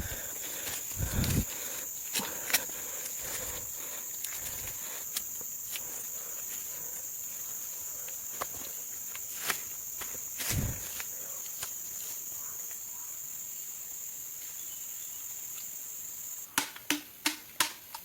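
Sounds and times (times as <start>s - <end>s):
high-pitched insect buzz: 0.0s - 16.6s.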